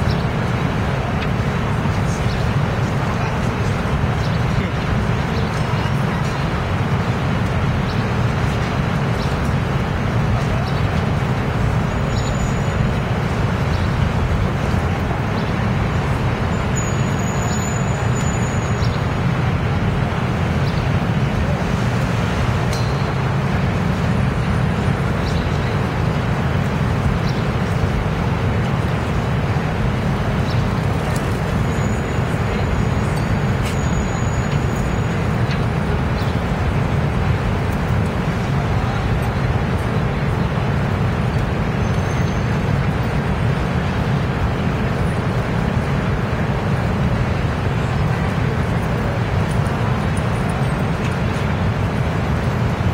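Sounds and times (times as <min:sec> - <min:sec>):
murmur of passers-by: 0:00.0 - 0:52.9
traffic rumble: 0:00.0 - 0:52.9.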